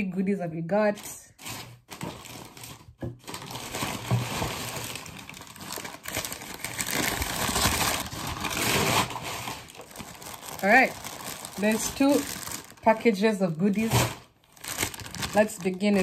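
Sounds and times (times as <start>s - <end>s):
packing paper crumpling: 1.4s - 16.0s.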